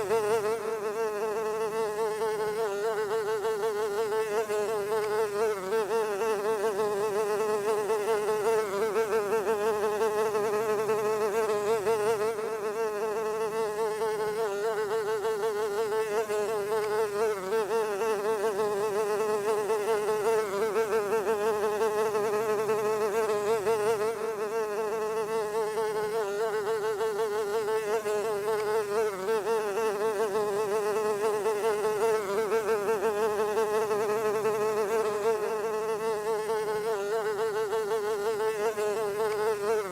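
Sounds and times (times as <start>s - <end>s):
fly buzzing: 0.0s - 39.9s.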